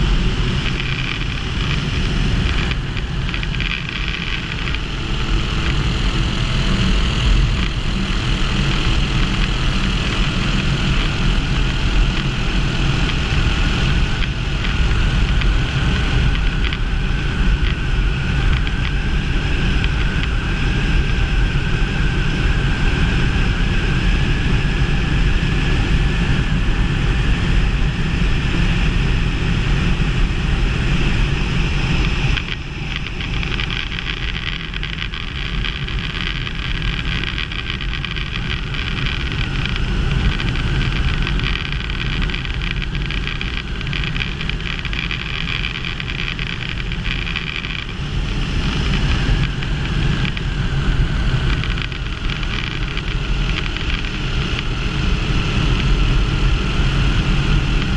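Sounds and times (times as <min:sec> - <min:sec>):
light aircraft engine running: 0:00.0 - 0:57.9
wind noise on microphone: 0:00.0 - 0:57.9.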